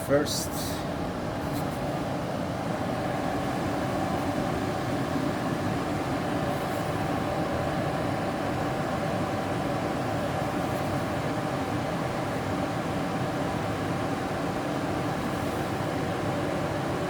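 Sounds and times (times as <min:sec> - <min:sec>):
furnace blower fan running: 0:00.0 - 0:17.0.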